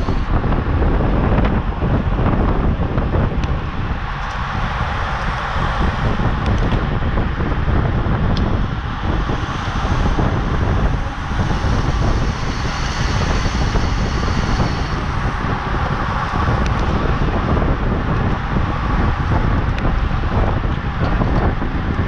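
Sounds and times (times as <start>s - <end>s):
faint high whine: 0.0s - 21.9s
wind buffeting microphone: 0.0s - 22.0s.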